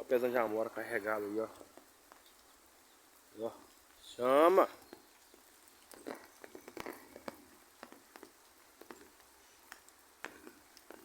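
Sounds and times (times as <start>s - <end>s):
raindrops tapping: 0.0s - 11.0s.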